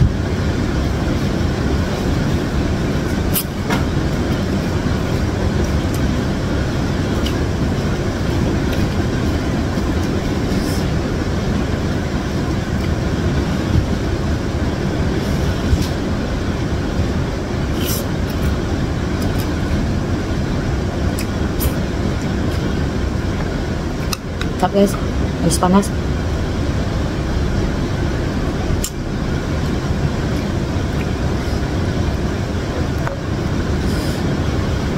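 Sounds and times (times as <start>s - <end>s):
heavy rain rumbling: 0.0s - 34.9s.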